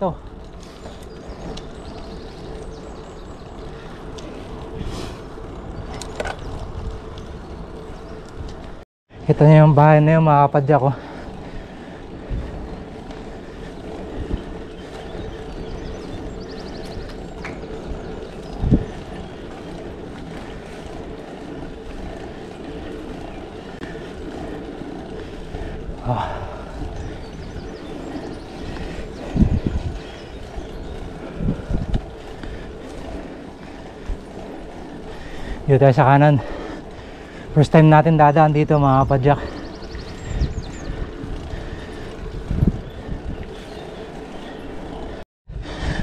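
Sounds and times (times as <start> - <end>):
wind rushing over microphone: 0.0 - 9.3, 11.2 - 46.0
bicycle tyre and road noise: 0.0 - 46.0.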